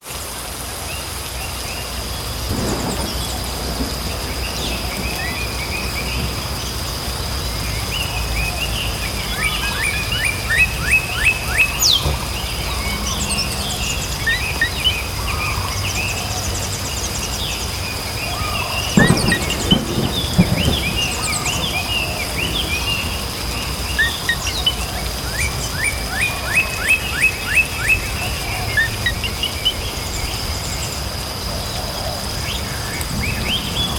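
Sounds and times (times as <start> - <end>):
steady rain: 0.0 - 33.9
songbirds chirping and trilling: 0.2 - 33.9
thunder rumbles: 0.7 - 33.9.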